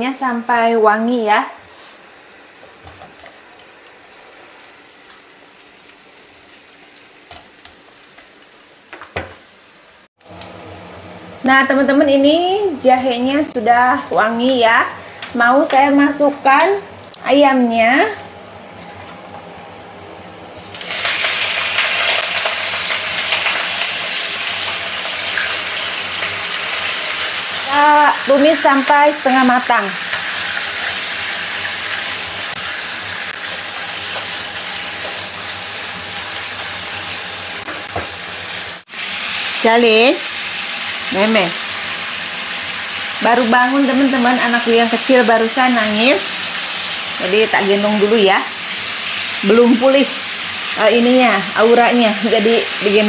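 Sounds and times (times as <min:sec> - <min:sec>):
ginger sizzling in oil: 0:00.2 - 0:53.0.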